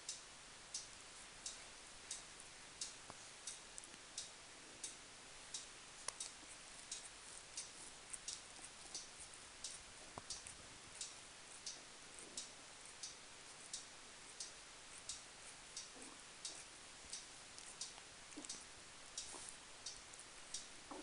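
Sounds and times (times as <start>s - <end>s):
cat licking fur: 0.8s - 21.0s.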